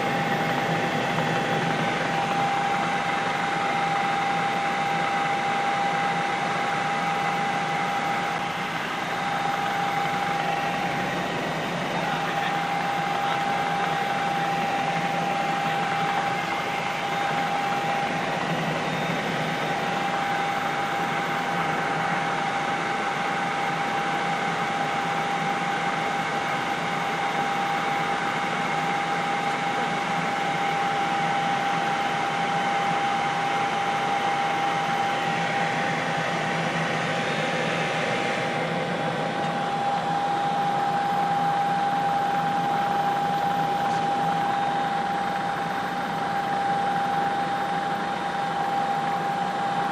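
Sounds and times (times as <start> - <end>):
constant high tone: 0.0 - 49.9
helicopter cabin noise: 0.0 - 49.9.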